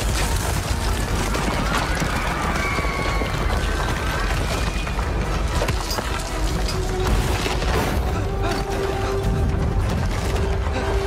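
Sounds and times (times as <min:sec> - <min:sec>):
orchestral film music: 0:00.0 - 0:11.0.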